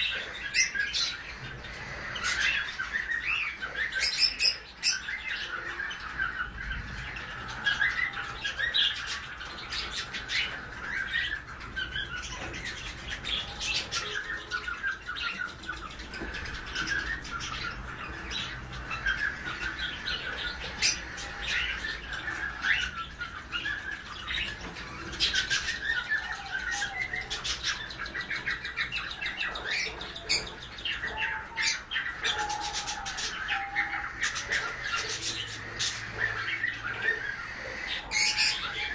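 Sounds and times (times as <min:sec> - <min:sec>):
parrots chirping and squawking: 0:00.0 - 0:38.9.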